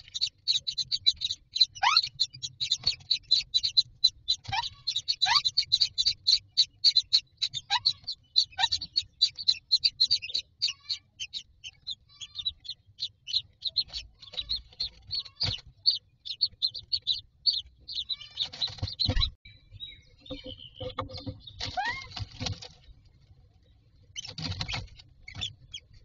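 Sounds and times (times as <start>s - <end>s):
nestlings begging cheeps: 0.0s - 19.4s, 24.1s - 25.9s.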